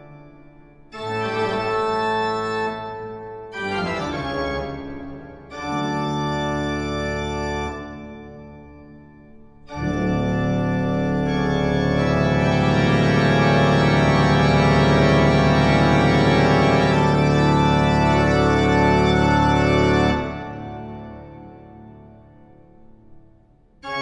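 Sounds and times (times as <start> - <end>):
held organ chord: 0.0 - 24.0.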